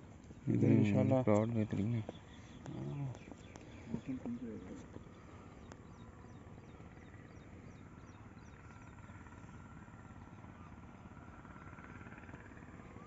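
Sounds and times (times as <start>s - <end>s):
faint steady drone: 0.0s - 13.0s.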